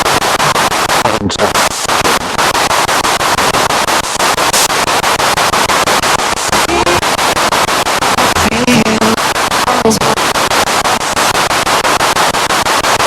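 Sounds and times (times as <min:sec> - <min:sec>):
pulsing radio static: 0:00.0 - 0:13.0
snatches of broadcast sound: 0:00.0 - 0:13.0.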